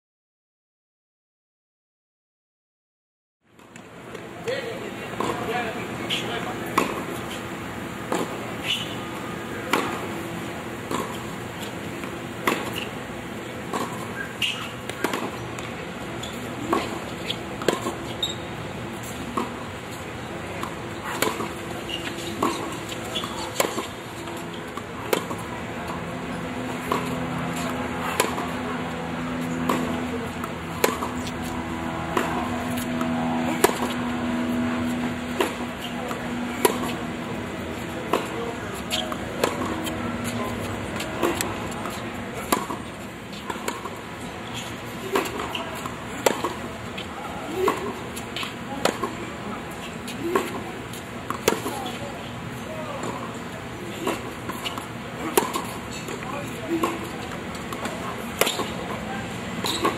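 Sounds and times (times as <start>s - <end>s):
rackets striking tennis ball: 5.1s - 52.1s, 52.8s - 59.9s.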